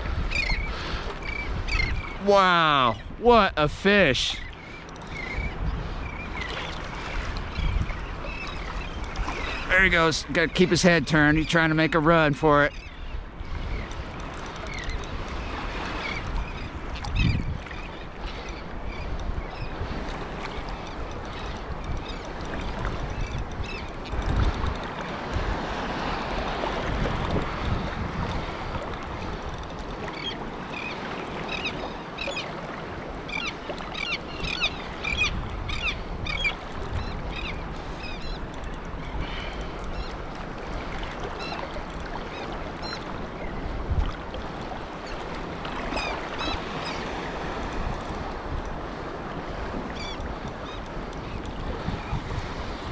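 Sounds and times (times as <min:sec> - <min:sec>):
wind on microphone: 0:00.0 - 0:03.6, 0:04.8 - 0:10.6, 0:12.7 - 0:52.9
small waves lapping: 0:00.0 - 0:52.9.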